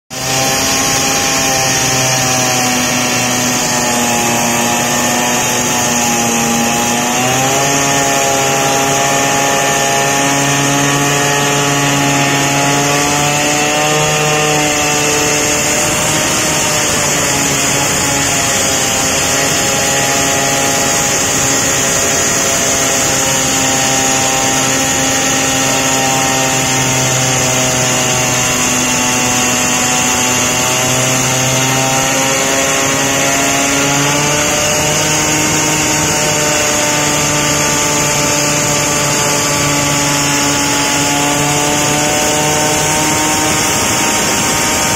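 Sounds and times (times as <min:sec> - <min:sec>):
cut-off saw cutting concrete: 0:00.0 - 0:44.9.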